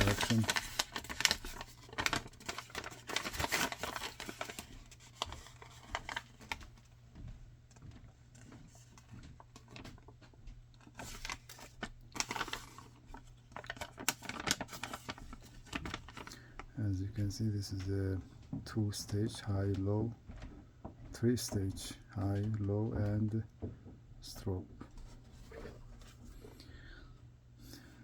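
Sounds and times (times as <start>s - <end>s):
plastic and paper crinkling: 0.0s - 23.1s.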